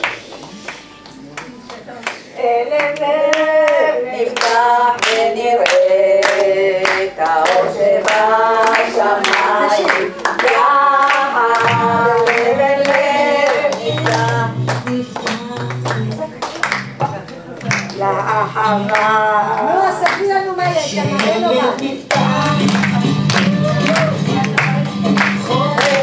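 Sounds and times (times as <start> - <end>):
hands clapping along: 0.0 - 26.0
woman singing into a microphone: 1.9 - 17.3, 18.0 - 26.0.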